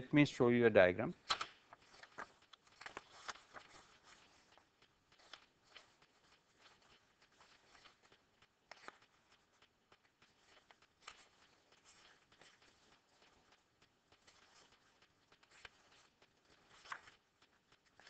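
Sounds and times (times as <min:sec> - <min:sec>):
paper sheets rustling: 0:01.2 - 0:18.0.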